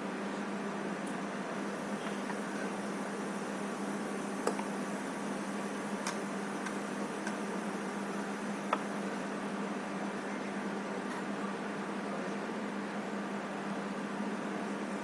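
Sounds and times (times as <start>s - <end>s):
steady hiss with hum: 0.0s - 15.0s.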